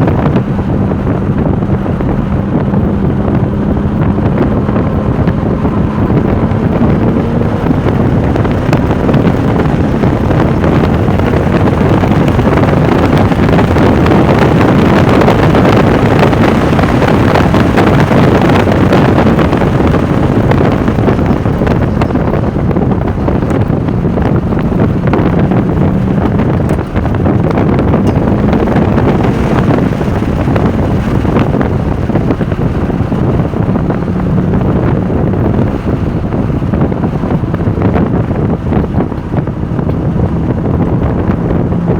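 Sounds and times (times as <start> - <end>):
faint car engine: 0.0 - 41.9
wind noise on microphone: 0.0 - 41.9.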